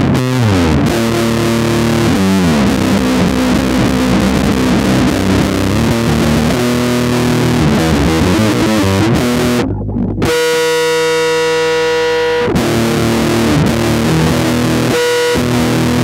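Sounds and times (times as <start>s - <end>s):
distorted bass guitar riff: 0.0s - 16.0s.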